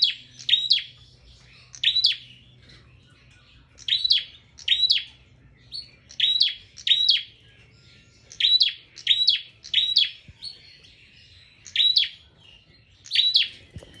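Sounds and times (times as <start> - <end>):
bird singing sharp chirps: 0.0 - 14.0.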